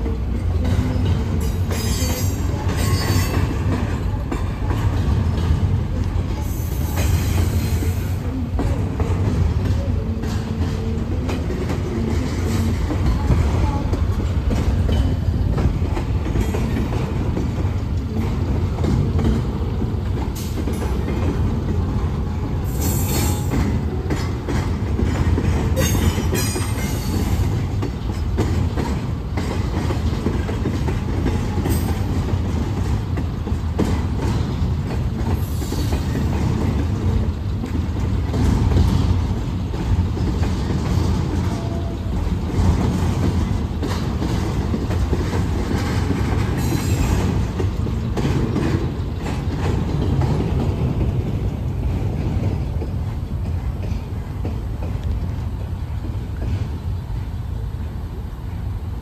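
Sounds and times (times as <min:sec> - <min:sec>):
wheels clicking over rail joints: 0:00.0 - 0:57.9
freight train rumbling past: 0:00.0 - 0:59.0.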